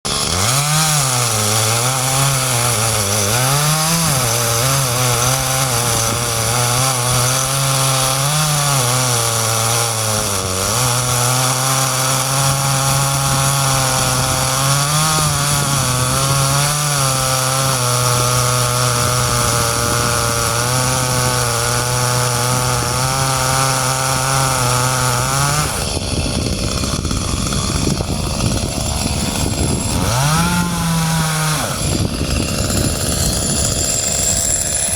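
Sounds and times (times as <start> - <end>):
chainsaw running at high revs: 0.1 - 34.9.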